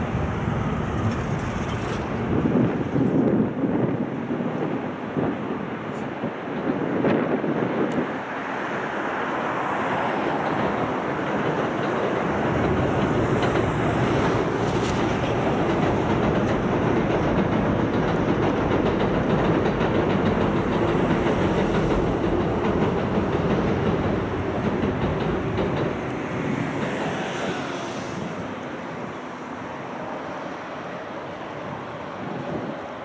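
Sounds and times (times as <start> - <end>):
train rumbling over bridge: 0.0 - 33.0.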